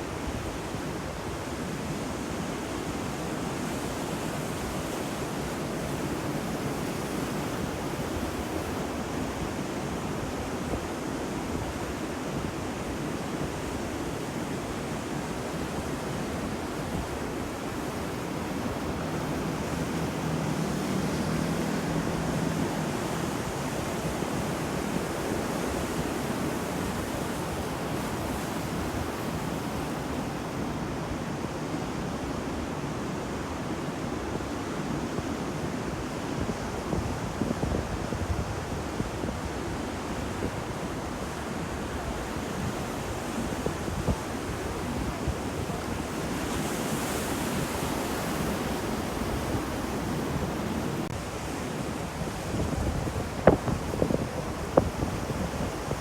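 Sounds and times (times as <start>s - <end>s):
waves washing onto shore: 0.0s - 56.0s.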